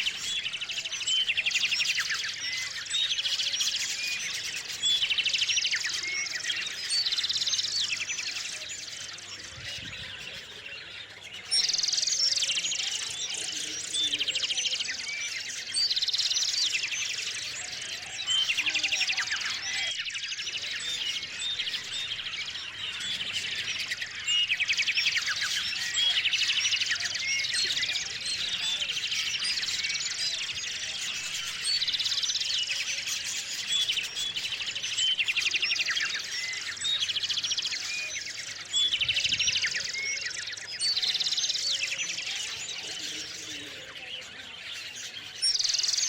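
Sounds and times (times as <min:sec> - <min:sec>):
small songbirds chirping: 0:00.0 - 0:46.0.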